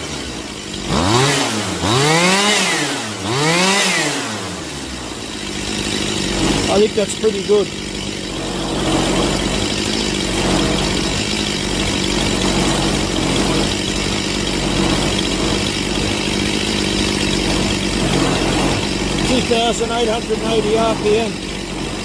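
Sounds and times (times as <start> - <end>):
chainsaw engine idling: 0.0 - 22.0.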